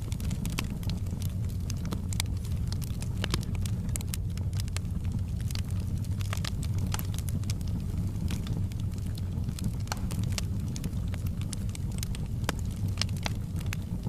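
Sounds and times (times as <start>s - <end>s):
bonfire crackling and popping: 0.0s - 14.0s
low rumble: 0.0s - 14.0s.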